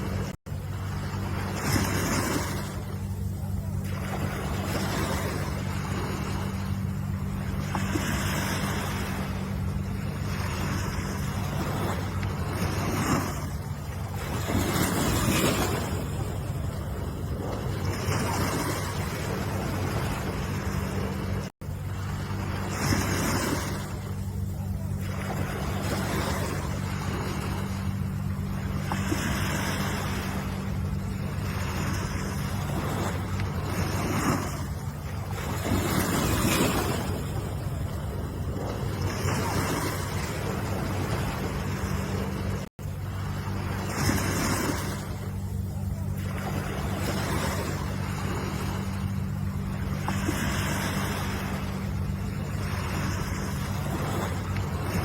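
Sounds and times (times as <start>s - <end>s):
constant low hum: 0.0s - 55.0s
steady low rumble: 0.0s - 55.0s
waves washing in: 0.0s - 55.0s.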